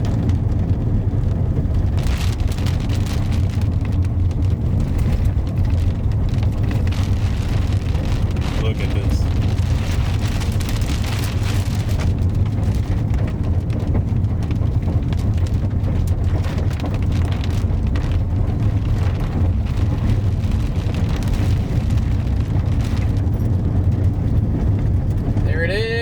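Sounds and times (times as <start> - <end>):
car cabin rumble: 0.0 - 26.0
rain pattering on car: 0.0 - 26.0.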